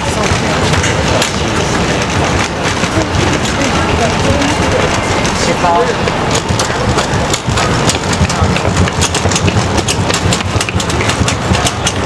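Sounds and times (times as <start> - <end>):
haze of noise: 0.0 - 12.0
low traffic rumble: 0.0 - 12.0.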